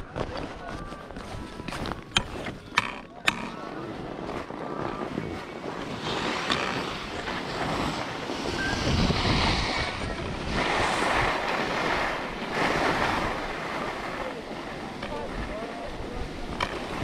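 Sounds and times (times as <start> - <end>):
skis scraping over packed snow: 0.0 - 17.0
wind rushing over microphone: 1.4 - 17.0.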